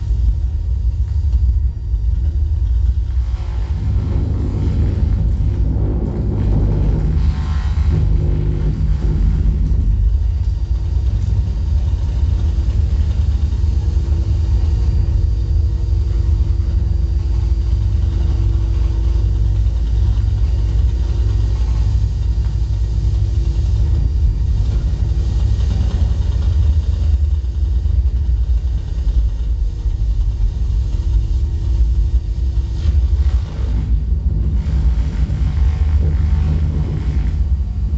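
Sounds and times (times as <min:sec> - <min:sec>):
constant hum tone: 0:00.0 - 0:37.9
loud steady bass rumble: 0:00.0 - 0:37.9.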